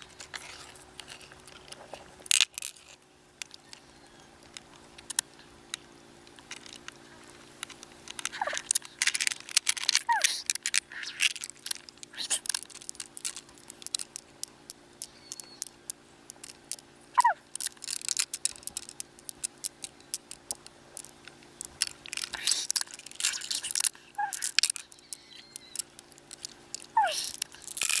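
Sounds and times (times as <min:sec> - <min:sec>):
faint steady hum: 0:00.0 - 0:28.0
sharp irregular clicks: 0:04.4 - 0:28.0.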